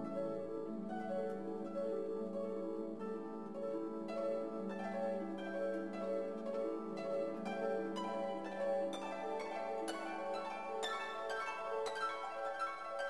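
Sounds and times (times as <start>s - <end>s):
plucked-string background music: 0.0s - 13.0s.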